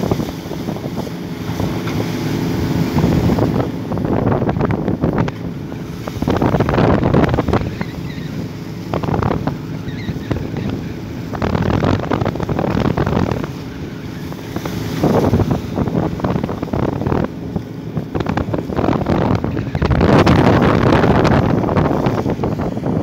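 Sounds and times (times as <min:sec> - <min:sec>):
low engine hum: 0:00.0 - 0:23.0
water splashing along boat hull: 0:00.0 - 0:23.0
wind buffeting microphone: 0:00.0 - 0:23.0.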